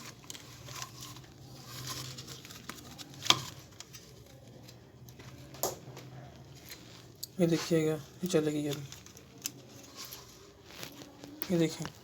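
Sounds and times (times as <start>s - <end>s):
faint handling noise: 0.0s - 12.0s.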